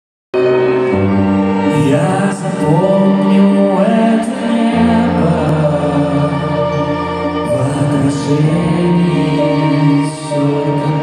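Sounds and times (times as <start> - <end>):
live band with strings playing: 0.4 - 11.0.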